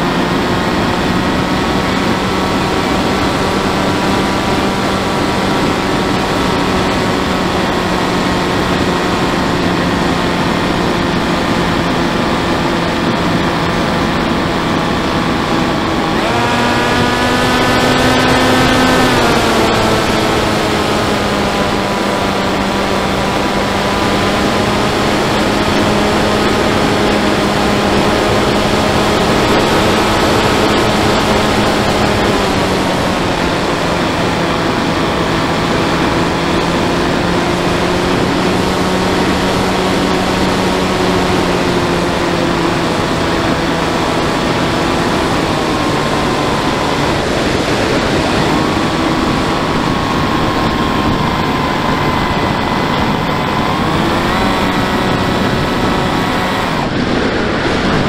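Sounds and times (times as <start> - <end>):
model plane motor whine: 0.0 - 58.0
wind rush: 0.0 - 58.0.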